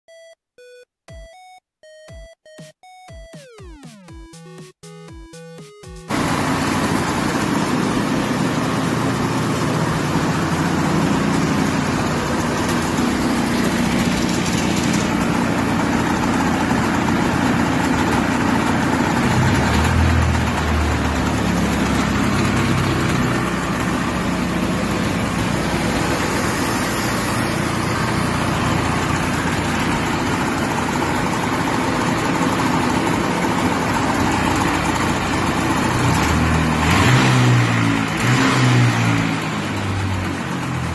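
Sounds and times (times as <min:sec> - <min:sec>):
snowmobile engine idling: 0:06.1 - 0:40.9.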